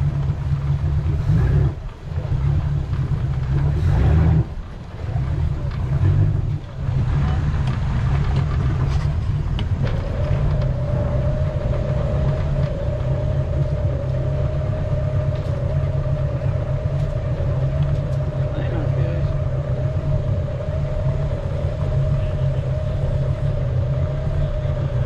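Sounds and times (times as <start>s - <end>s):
outboard engine running at low speed: 0.0s - 25.0s
steady whine: 0.0s - 25.0s.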